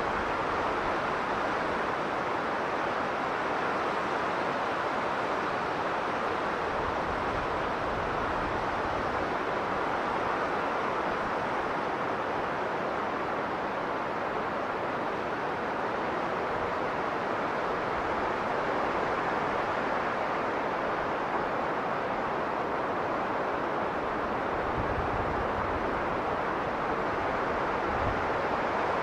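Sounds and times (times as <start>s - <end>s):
blizzard wind blowing: 0.0s - 29.0s.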